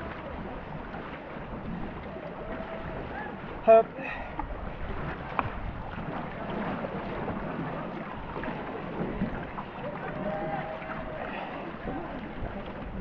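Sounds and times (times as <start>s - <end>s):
paddles stroking through water: 0.0s - 13.0s
water washing along hull: 0.0s - 13.0s.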